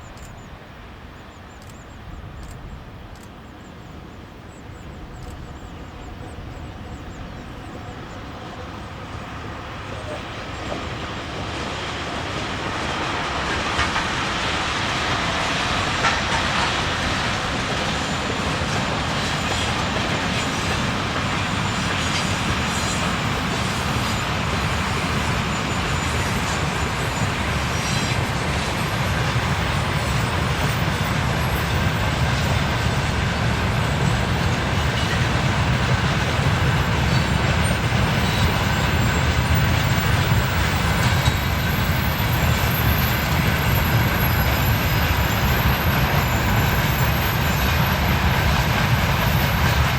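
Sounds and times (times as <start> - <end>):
freight train rumbling on rails: 0.0 - 49.9.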